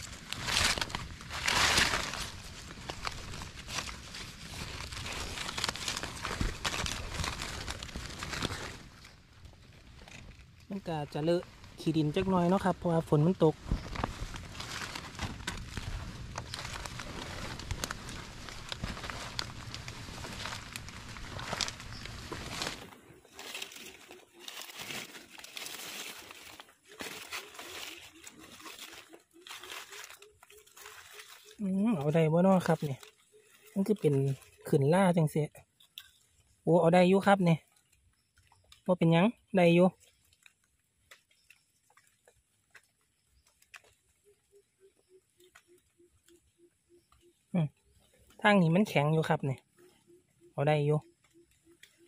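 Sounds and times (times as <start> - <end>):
hands rustling wet leaves: 0.0 - 49.9.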